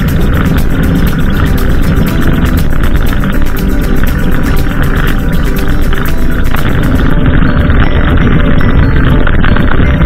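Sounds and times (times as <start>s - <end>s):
loud music with fast beat: 0.0s - 8.8s.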